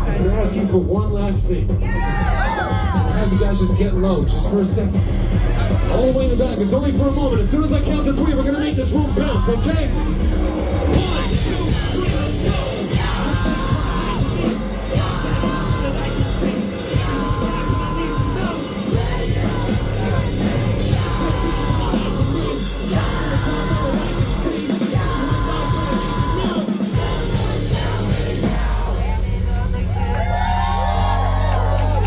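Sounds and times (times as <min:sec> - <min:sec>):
loud live band music: 0:00.0 - 0:32.0
crowd yelling: 0:01.8 - 0:32.0.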